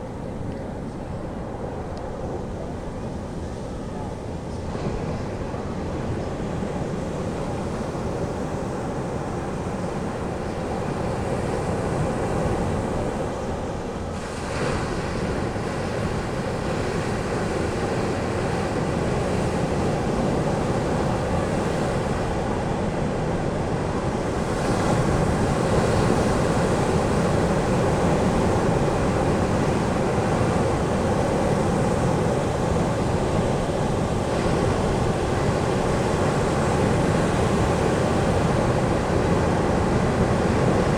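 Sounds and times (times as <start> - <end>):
ocean waves breaking on beach: 4.3 - 40.9.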